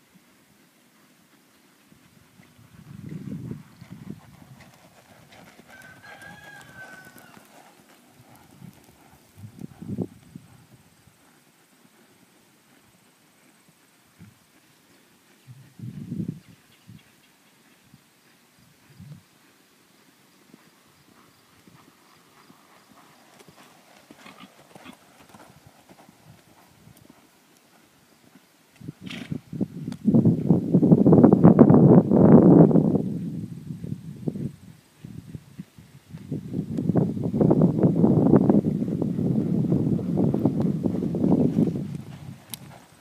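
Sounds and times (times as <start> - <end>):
hoofbeats on soft dirt: 0.0 - 32.8, 34.3 - 43.0.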